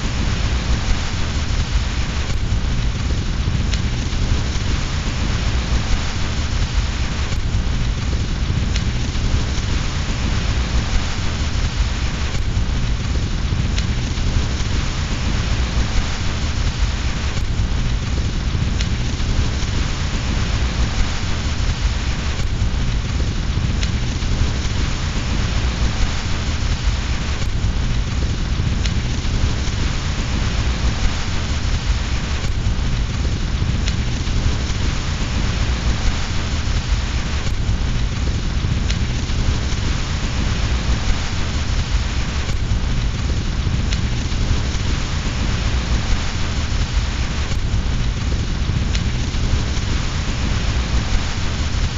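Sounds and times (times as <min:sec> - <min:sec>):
fire crackling: 0:00.0 - 0:51.9
steady rain: 0:00.0 - 0:51.9.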